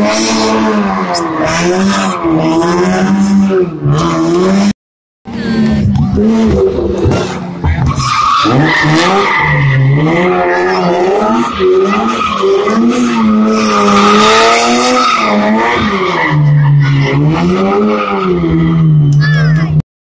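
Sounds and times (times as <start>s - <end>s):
rally car engine revving: 0.0s - 4.7s, 5.3s - 19.8s.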